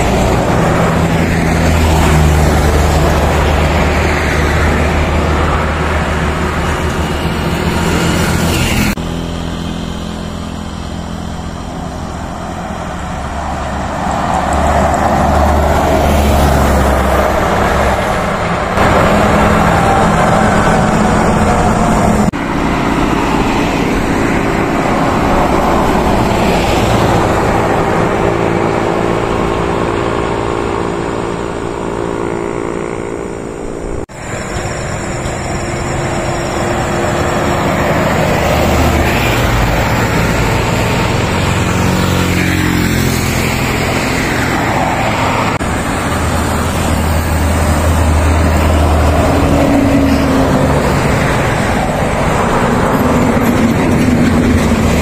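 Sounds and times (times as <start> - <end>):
traffic passing by: 0.0 - 55.0.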